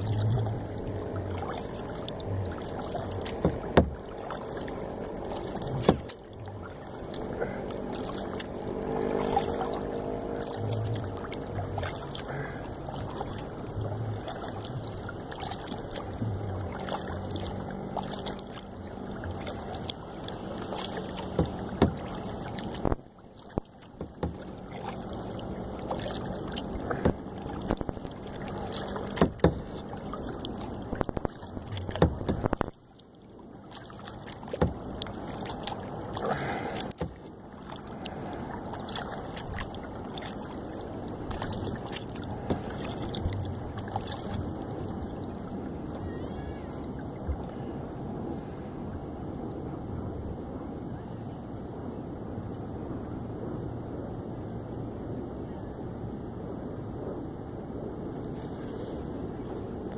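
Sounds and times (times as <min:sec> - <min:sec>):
paddle splashing in water: 0:00.0 - 0:51.2, 0:58.0 - 0:59.9.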